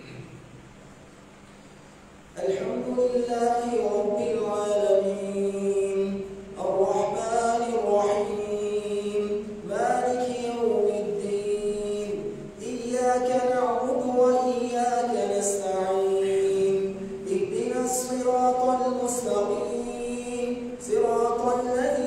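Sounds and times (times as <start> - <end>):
man chanting melodic recitation: 2.4 - 22.0.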